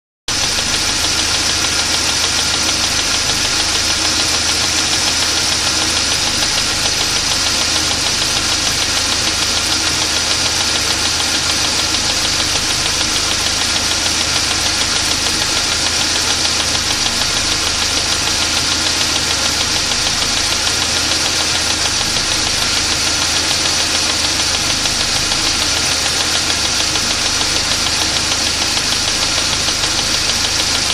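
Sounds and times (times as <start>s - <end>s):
engine idling with knock: 0.3s - 30.9s.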